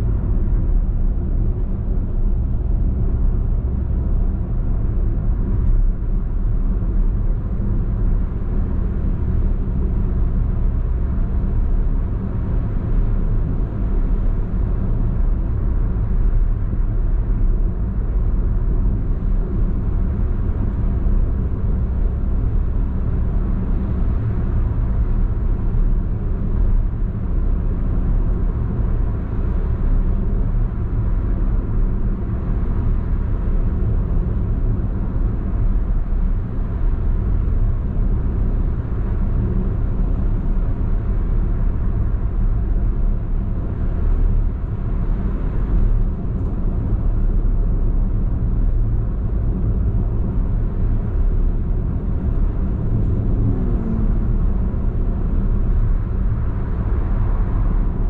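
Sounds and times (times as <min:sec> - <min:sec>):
in-cabin road noise rumble: 0:00.0 - 0:58.0.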